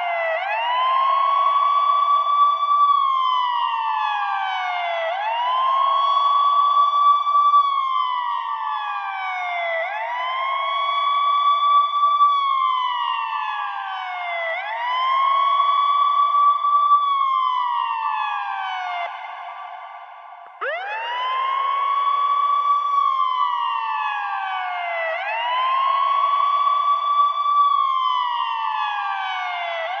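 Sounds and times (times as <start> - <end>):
ambulance siren wailing: 0.0 - 30.0.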